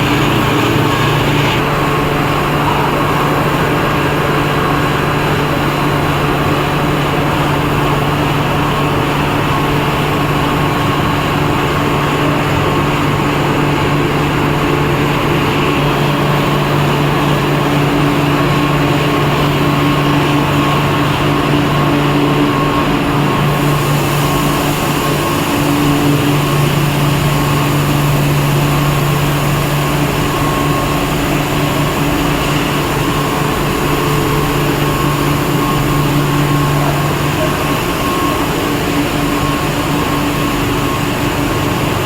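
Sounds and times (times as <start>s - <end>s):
machine drone: 0.0s - 42.0s.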